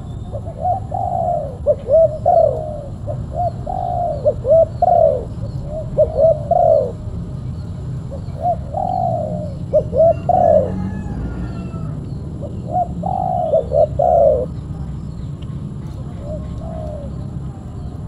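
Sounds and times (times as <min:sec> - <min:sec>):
dove cooing: 0:00.0 - 0:07.3, 0:08.0 - 0:14.9, 0:15.8 - 0:18.0.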